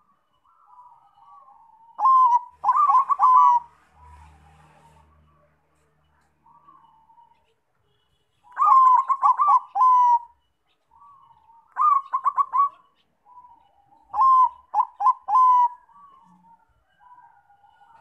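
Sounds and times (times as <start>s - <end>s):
dove cooing: 0.0s - 5.2s, 8.5s - 18.0s.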